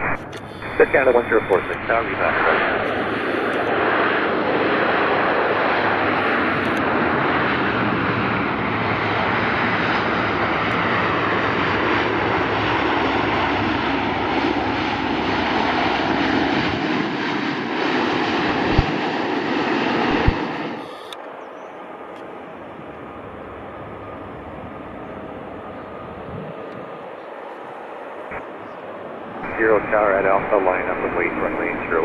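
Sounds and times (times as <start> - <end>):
jet engines rushing: 0.0 - 32.0.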